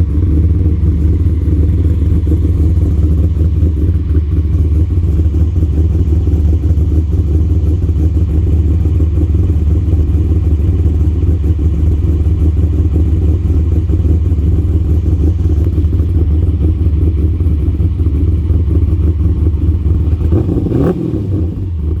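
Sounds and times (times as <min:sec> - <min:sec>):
car engine idling with lope: 0:00.0 - 0:22.0
engine knock: 0:00.0 - 0:22.0.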